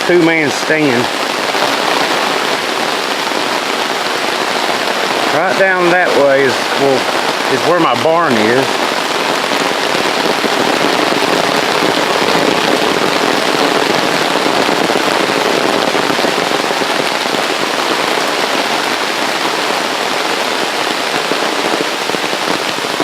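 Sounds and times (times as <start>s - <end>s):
rain on an umbrella: 0.0s - 23.0s.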